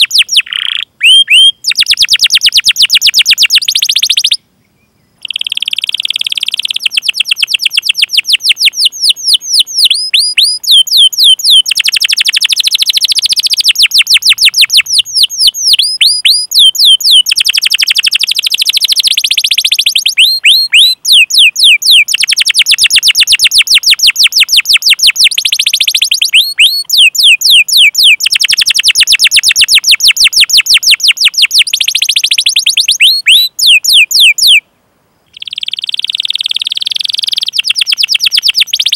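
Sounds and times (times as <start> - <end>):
canary singing rapid chirps: 0.0 - 4.4, 5.2 - 34.6, 35.3 - 38.9
down-sweeping bird notes: 2.9 - 34.6.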